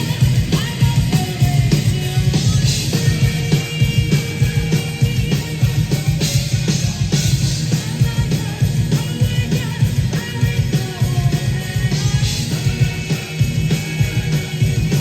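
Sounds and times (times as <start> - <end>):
distorted guitars: 0.0 - 15.0
fast drumming: 0.0 - 15.0
live metal band playing: 0.0 - 15.0
person singing: 0.0 - 15.0.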